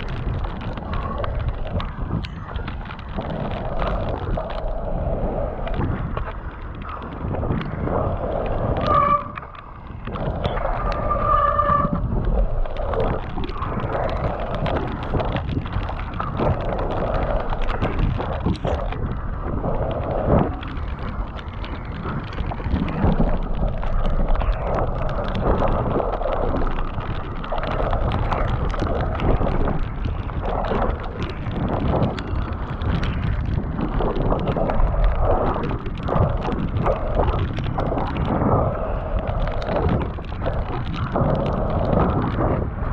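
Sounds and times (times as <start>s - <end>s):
bike rattling over bumps: 0.0s - 42.9s
low rumble: 0.0s - 42.9s
wind rushing over microphone: 0.0s - 42.9s.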